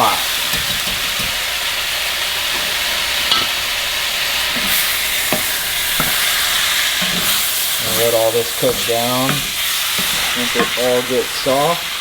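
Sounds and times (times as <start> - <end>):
vegetables sizzling in a pot: 0.0 - 12.0.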